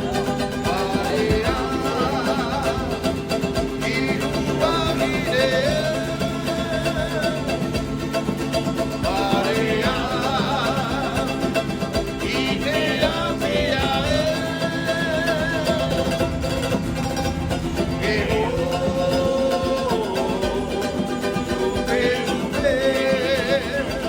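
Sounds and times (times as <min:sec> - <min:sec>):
person singing: 0:00.0 - 0:16.8, 0:17.8 - 0:24.0
plucked guitar: 0:00.0 - 0:24.0.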